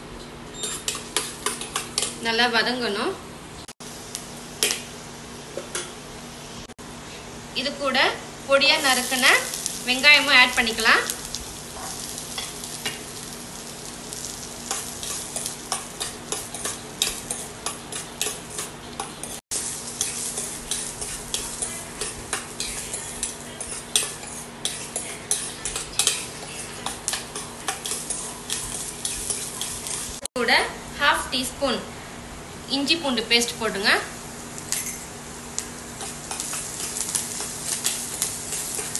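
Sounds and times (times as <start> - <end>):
onion and garlic sizzling in oil: 0.5 - 3.1, 3.8 - 38.9.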